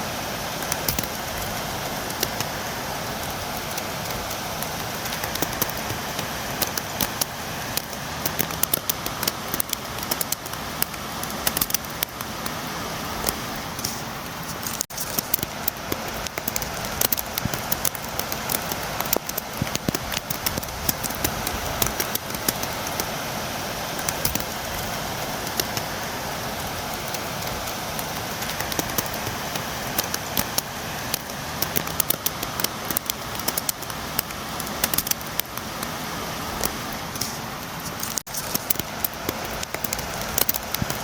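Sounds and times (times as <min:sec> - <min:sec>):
rain falling: 0:00.0 - 0:41.0
raindrops tapping a surface: 0:00.0 - 0:41.0.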